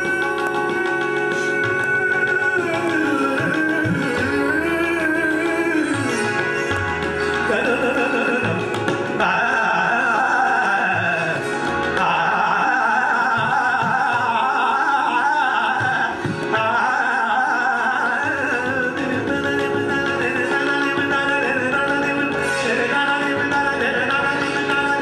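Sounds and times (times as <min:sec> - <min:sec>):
man singing: 0:00.0 - 0:25.0.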